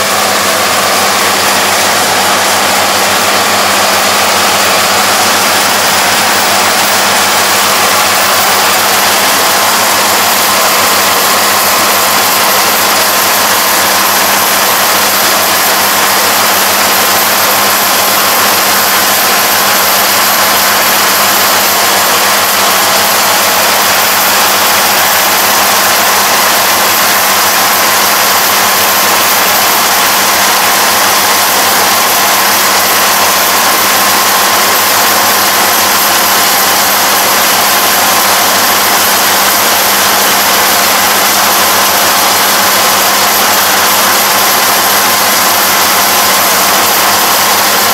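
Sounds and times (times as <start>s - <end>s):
combine harvester machinery drone: 0.0s - 47.9s.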